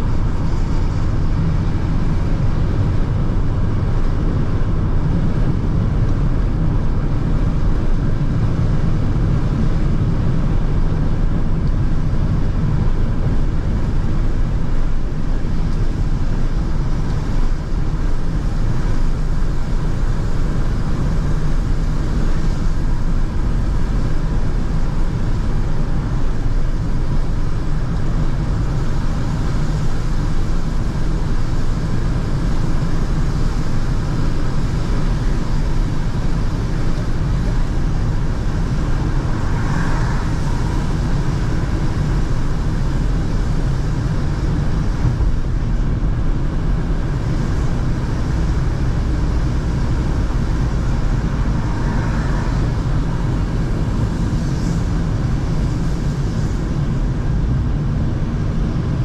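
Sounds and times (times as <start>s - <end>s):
car engine and tyres rumbling: 0.0s - 59.0s
tyres hissing on wet asphalt: 6.9s - 59.0s.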